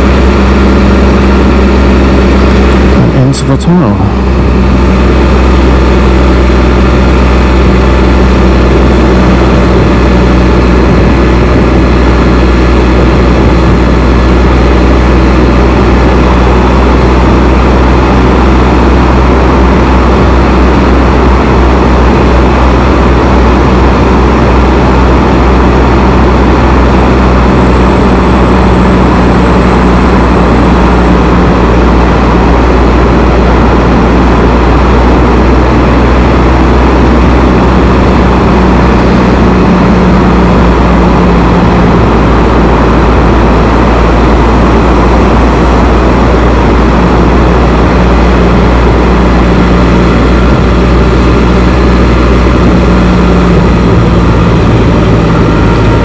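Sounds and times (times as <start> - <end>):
motorcycle engine roaring in tunnel: 0.0 - 3.2, 4.1 - 56.0
road traffic in tunnel: 0.0 - 56.0.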